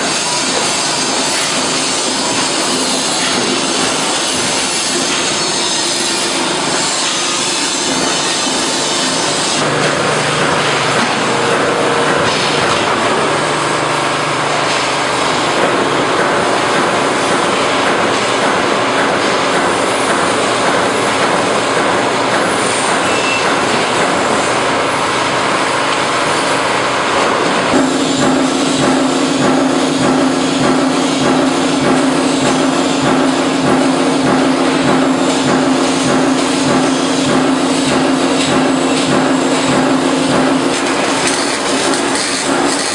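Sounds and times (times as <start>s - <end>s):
workshop machinery noise: 0.0s - 42.9s.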